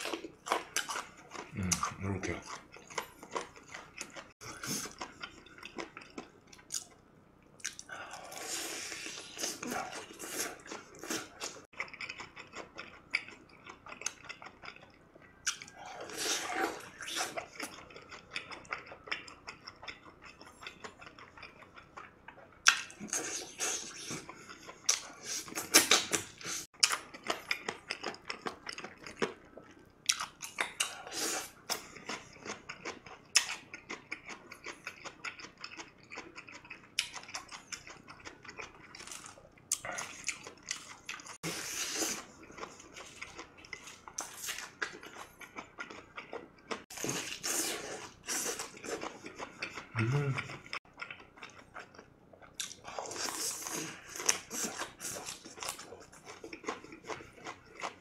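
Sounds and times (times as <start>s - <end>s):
person chewing crispy chicken: 0.0s - 7.0s, 7.6s - 58.0s.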